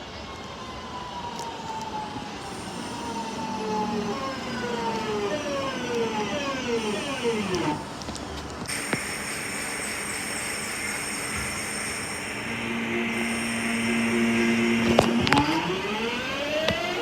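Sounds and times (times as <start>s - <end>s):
train traction motors whining: 1.2s - 17.0s.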